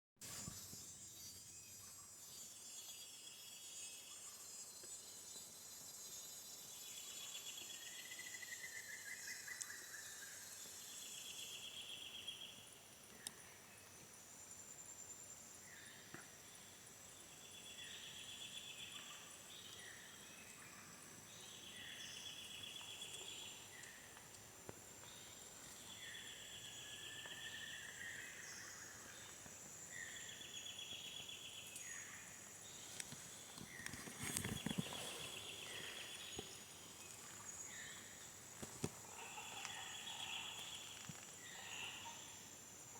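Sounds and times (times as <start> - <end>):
high insect drone: 0.3 - 42.9.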